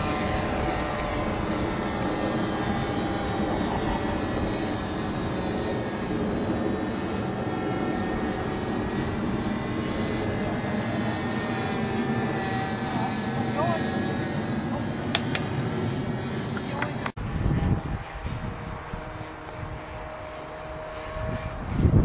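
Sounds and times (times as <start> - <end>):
model airplane motor running: 0.0 - 22.0.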